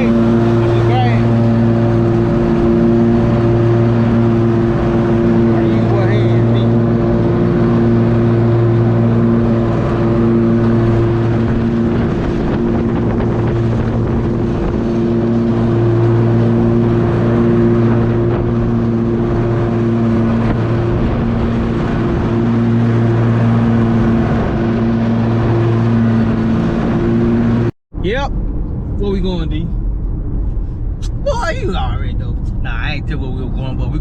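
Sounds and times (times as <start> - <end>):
engine humming: 0.0 - 34.0
wind noise: 0.0 - 34.0.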